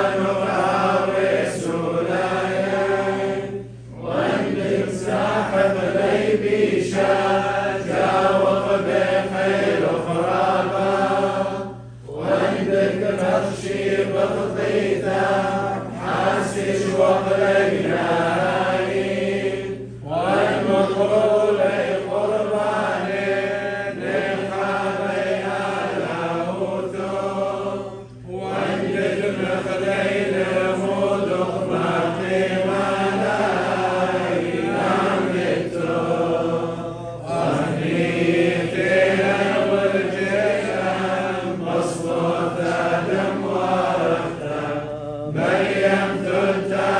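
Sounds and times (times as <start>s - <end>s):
liturgical chant: 0.0s - 46.9s.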